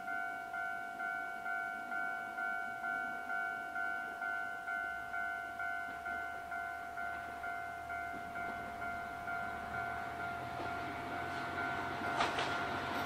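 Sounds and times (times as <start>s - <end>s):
level crossing bell clanging: 0.0s - 13.0s
railcar engine hum: 0.0s - 13.0s.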